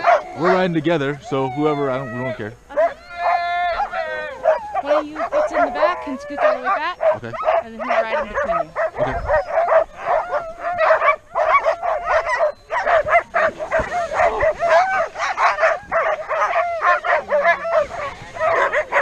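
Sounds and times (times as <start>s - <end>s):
dogs barking and howling: 0.0s - 19.0s.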